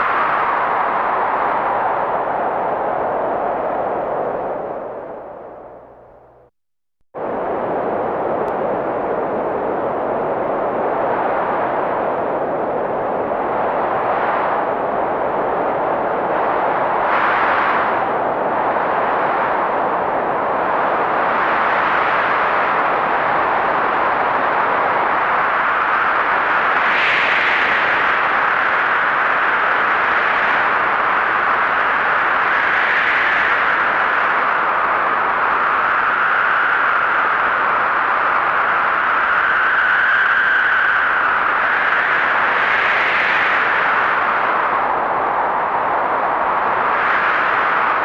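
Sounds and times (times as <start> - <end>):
blizzard wind rushing: 0.0 - 6.5, 7.2 - 48.0
faint wind whistle: 7.2 - 48.0.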